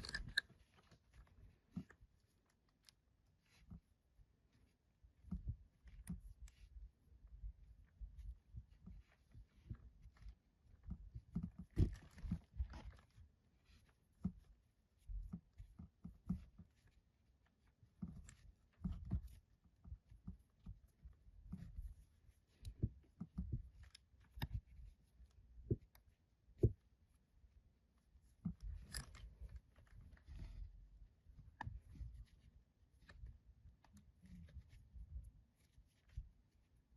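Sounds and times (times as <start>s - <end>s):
soft taps and thuds of handling: 0.4s - 27.3s, 28.0s - 36.9s.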